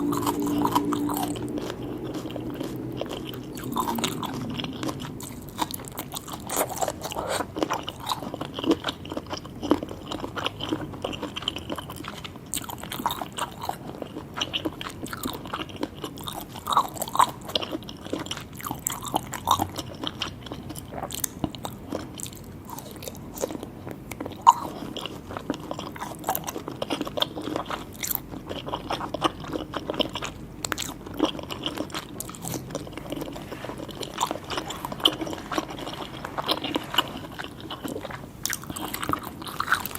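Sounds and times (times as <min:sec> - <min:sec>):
chewing crunches: 0:00.0 - 0:39.9.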